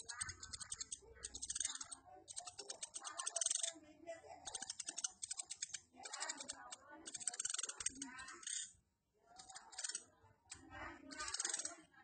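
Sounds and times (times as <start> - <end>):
woodpecker chattering ticks: 0.0 - 3.8, 4.4 - 8.7, 9.4 - 11.8.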